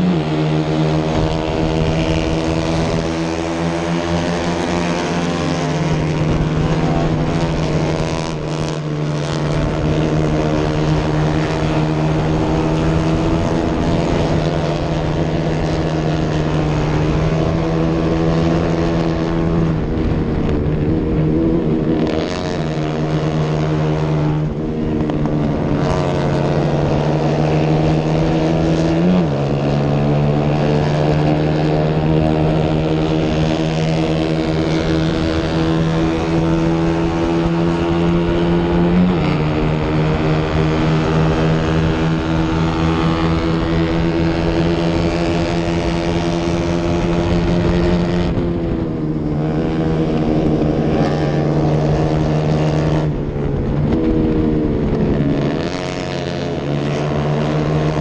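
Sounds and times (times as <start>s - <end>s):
racing motorcycle engine revving: 0.0s - 58.0s
wind rush: 0.0s - 58.0s.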